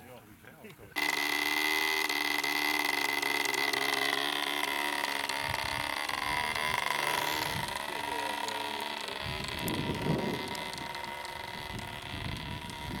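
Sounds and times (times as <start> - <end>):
model airplane engine whine: 0.9 - 13.0.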